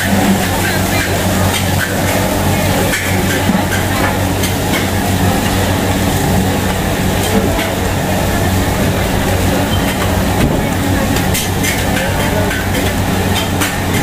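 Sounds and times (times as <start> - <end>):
loud machine drone: 0.0 - 14.0.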